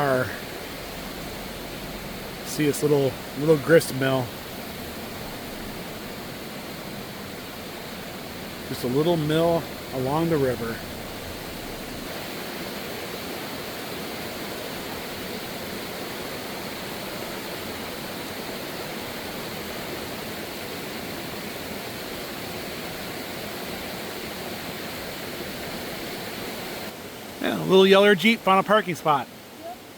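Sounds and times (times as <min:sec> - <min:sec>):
rushing stream water: 0:00.0 - 0:29.9.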